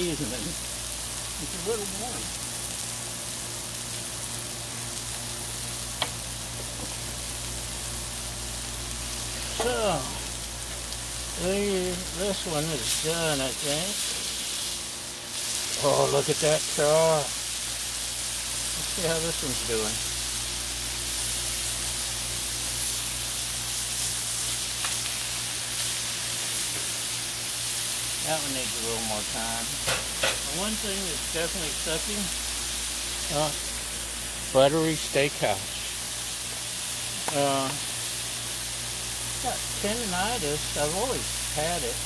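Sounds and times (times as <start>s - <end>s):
patties sizzling on a griddle: 0.0s - 42.0s.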